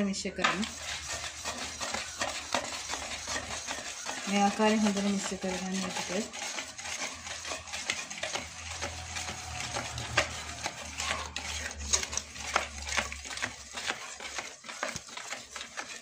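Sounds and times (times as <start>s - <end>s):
whisk clicking and scraping metal bowl: 0.0s - 16.0s.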